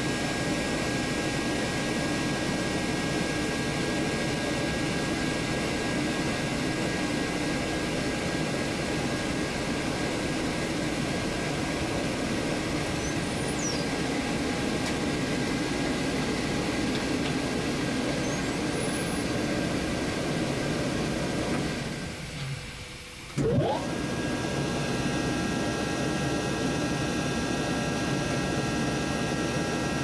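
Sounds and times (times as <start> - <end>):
air compressor running: 0.0 - 30.0.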